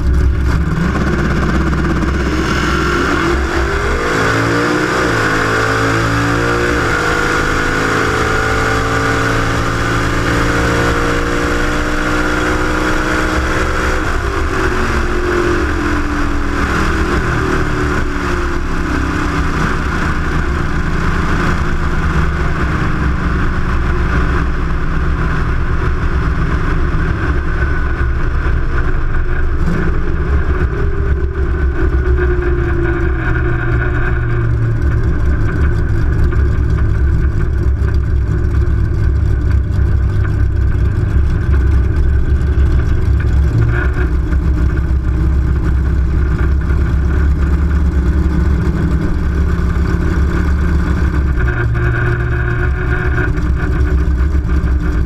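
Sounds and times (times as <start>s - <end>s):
car engine rumbling: 0.0s - 55.0s.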